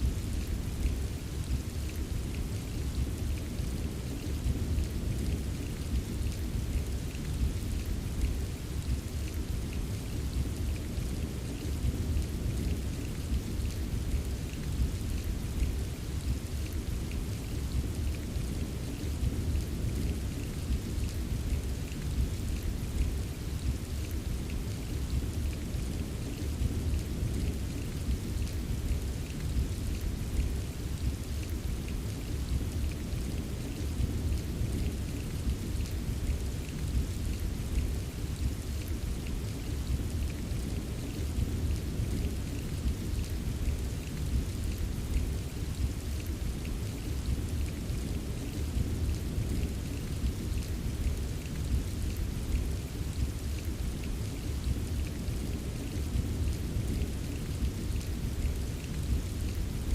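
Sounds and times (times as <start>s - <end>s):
raindrop ticks: 0.0s - 59.9s
steady rain falling: 0.0s - 59.9s.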